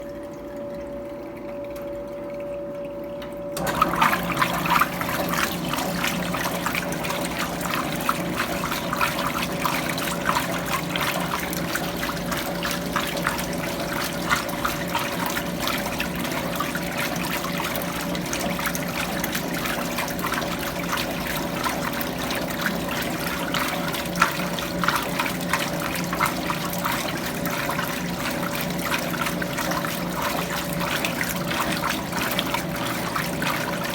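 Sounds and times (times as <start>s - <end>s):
washing machine hum: 0.0s - 33.9s.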